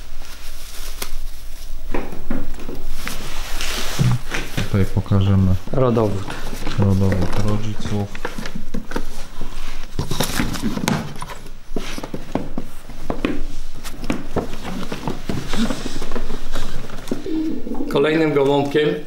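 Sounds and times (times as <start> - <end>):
paper rustling: 0.0 - 1.9, 2.6 - 4.9, 5.6 - 17.4.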